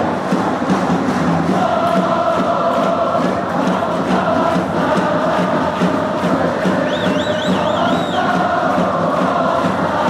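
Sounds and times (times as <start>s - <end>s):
crowd singing a chant: 0.0s - 10.0s.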